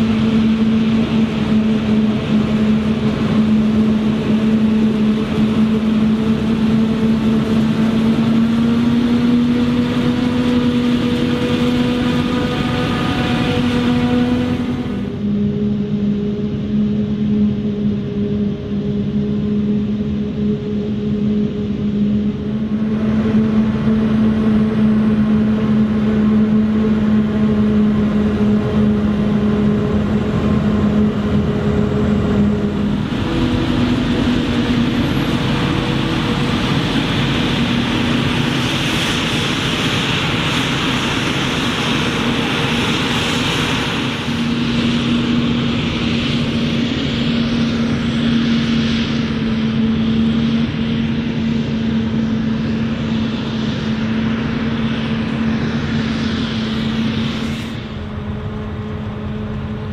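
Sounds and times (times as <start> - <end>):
harvester and tractor engines under load: 0.0 - 19.6, 20.4 - 59.9.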